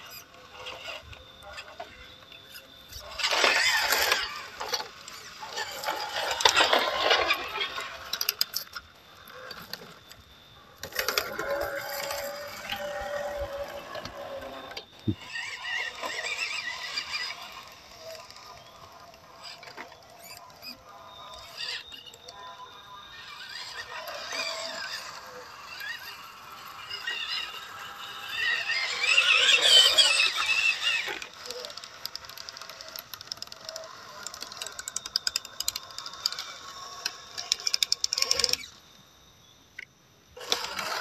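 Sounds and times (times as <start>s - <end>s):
small electric motors whining: 0.0s - 41.0s.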